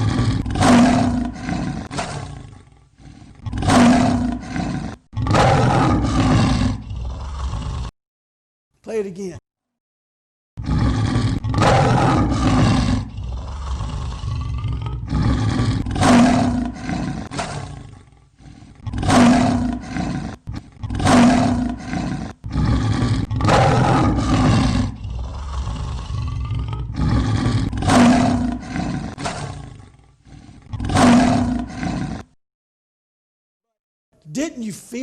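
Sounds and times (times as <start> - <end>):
lion roaring: 0.0 - 7.9, 10.6 - 32.4.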